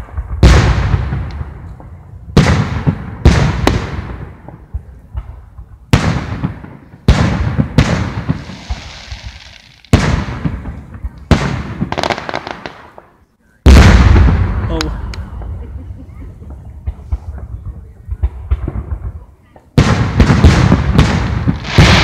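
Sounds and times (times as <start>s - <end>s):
firework shells booming: 0.0s - 13.1s, 13.7s - 22.0s.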